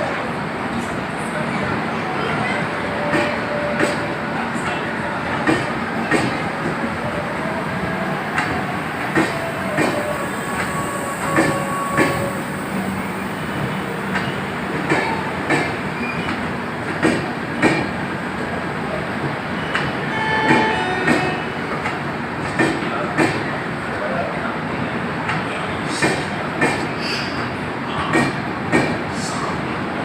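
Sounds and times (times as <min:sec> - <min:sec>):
continuous train rumble: 0:00.0 - 0:30.0.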